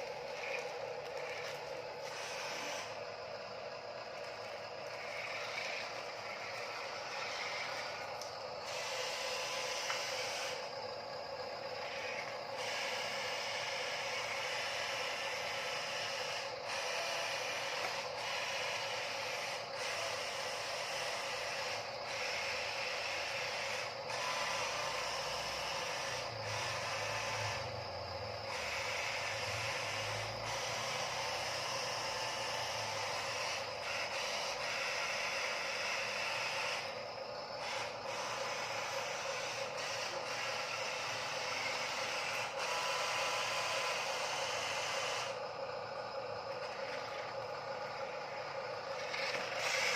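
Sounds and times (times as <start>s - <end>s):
toy truck electric motor whine: 0.0s - 49.9s.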